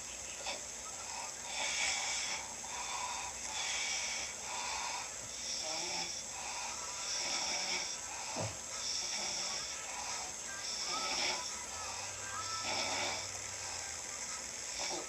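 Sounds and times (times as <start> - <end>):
person snoring: 0.4 - 14.1, 14.7 - 15.0.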